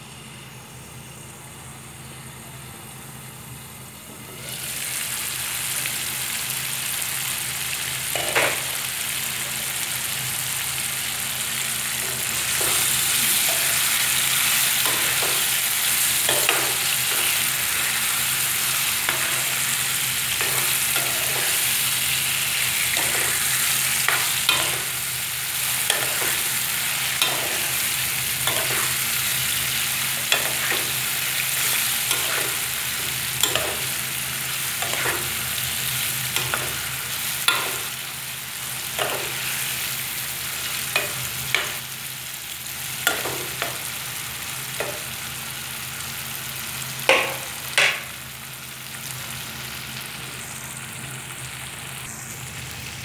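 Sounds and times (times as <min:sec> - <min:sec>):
food sizzling in oil: 0:04.2 - 0:53.0.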